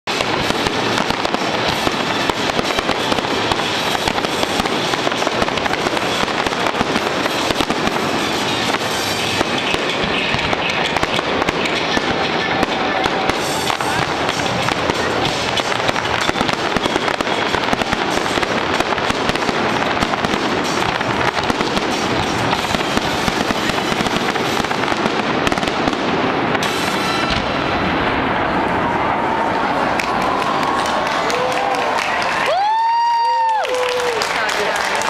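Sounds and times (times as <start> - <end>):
fireworks bangs and crackles: 0.1 - 35.0.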